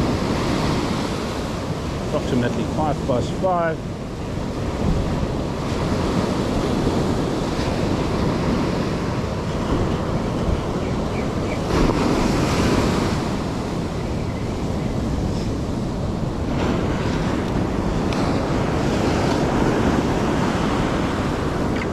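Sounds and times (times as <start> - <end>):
ocean surf breaking: 0.0 - 21.9
wind buffeting microphone: 0.0 - 21.9.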